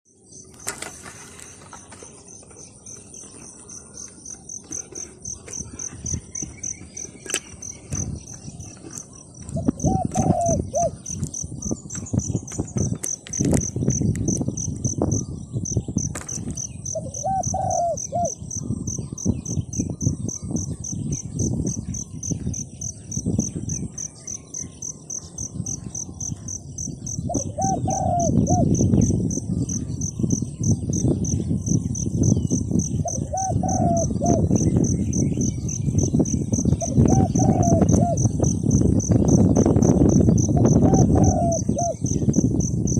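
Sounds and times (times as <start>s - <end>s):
dove cooing: 1.9s - 14.0s, 16.0s - 30.9s, 32.8s - 42.5s.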